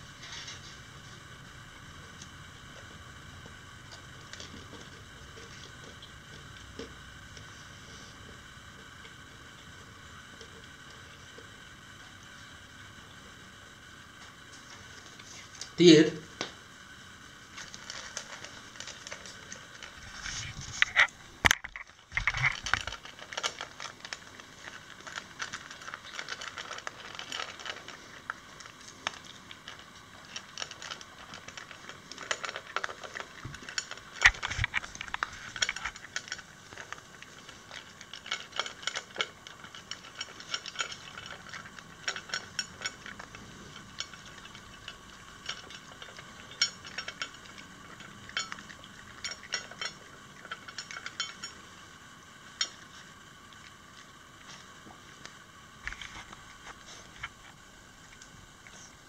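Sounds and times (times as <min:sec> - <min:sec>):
dog eating from metal bowl: 0:00.0 - 0:12.5, 0:17.4 - 0:59.0.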